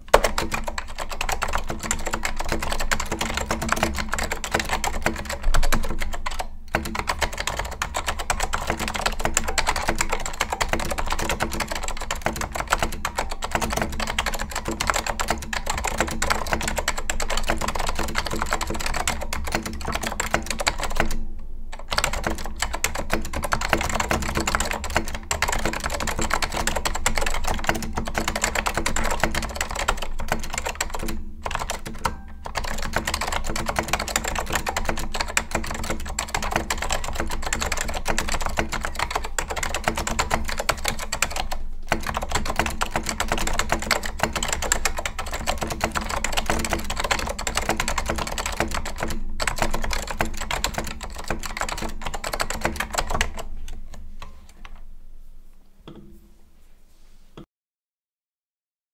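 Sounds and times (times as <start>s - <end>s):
keyboard typing clicks: 0.1s - 54.9s.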